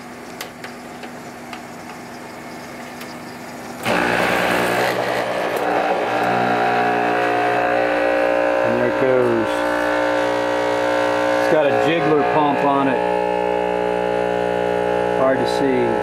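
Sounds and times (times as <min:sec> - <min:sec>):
condensate pump buzzing: 0:00.0 - 0:16.0
dehumidifier humming: 0:00.0 - 0:16.0.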